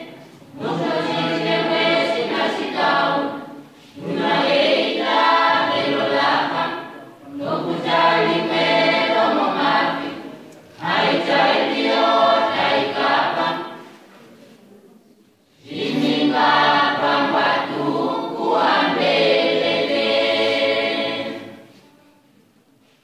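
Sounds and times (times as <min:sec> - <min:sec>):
choir singing unaccompanied: 0:00.0 - 0:14.0, 0:15.5 - 0:21.8.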